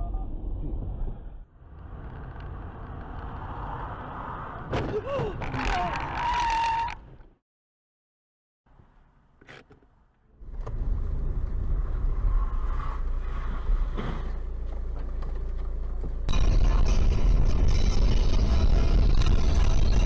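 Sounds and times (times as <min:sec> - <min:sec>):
car engine and road noise: 0:00.0 - 0:07.4, 0:08.7 - 0:20.0.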